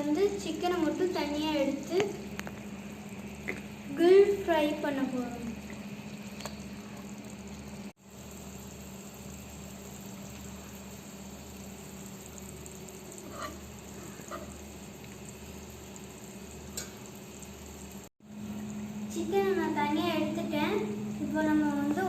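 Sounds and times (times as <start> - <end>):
broth simmering in a pot: 0.0 - 22.0.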